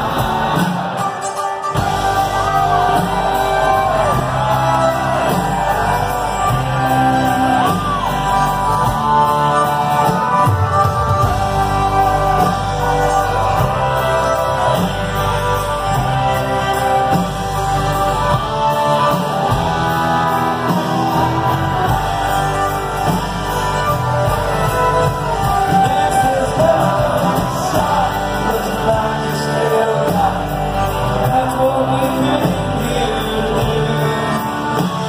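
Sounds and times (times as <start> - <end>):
country rock band playing live: 0.0 - 35.0
lead singer: 0.0 - 35.0.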